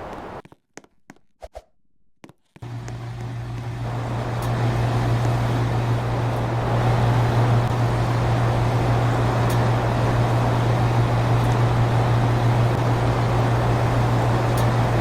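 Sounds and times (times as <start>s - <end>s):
air conditioner hum: 2.6s - 15.0s.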